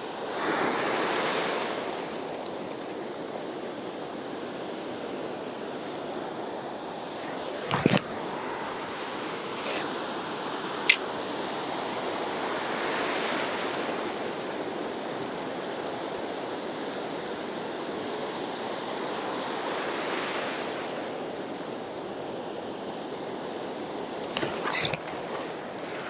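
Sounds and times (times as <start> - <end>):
ocean surf on sandy beach: 0.0 - 21.8, 23.2 - 26.0.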